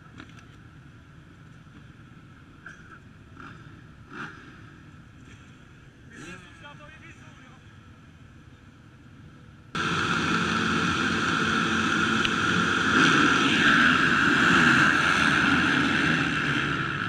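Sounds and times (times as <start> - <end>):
motocross engines at full throttle: 1.4 - 17.0.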